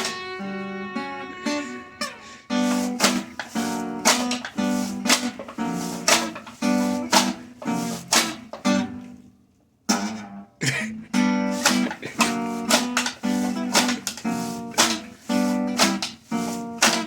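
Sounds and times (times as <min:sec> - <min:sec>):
guitar strumming chords: 0:00.0 - 0:09.3, 0:09.9 - 0:17.0.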